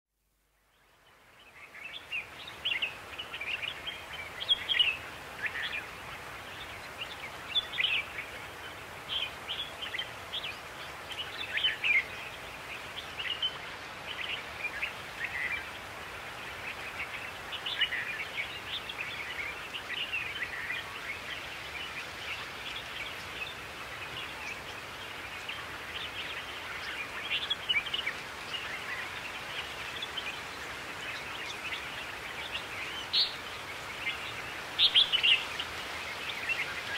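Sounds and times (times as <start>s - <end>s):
faint outdoor hiss: 0.1s - 36.9s
songbirds chirping and singing: 0.8s - 36.9s.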